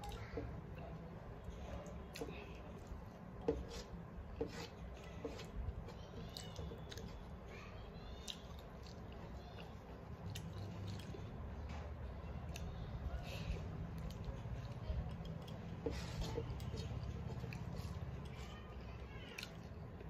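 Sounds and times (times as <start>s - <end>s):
person chewing food: 0.0s - 7.5s, 8.1s - 20.0s
wet squishing of fingers mixing rice: 0.0s - 20.0s.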